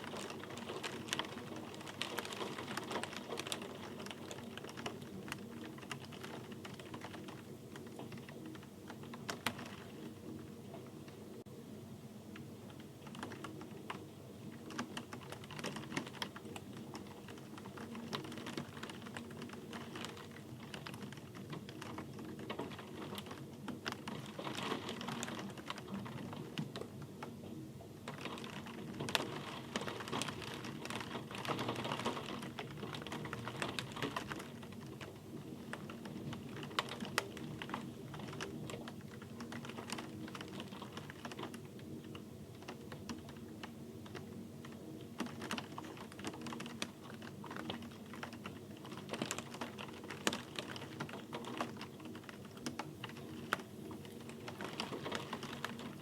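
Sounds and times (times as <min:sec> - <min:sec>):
rain ticking on hard surface: 0:00.0 - 0:11.5, 0:12.1 - 0:56.0.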